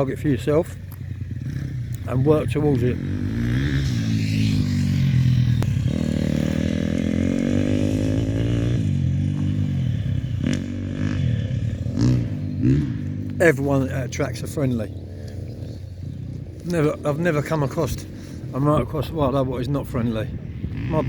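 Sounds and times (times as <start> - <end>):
motocross bike engine revving: 0.0 - 19.3, 20.6 - 21.0.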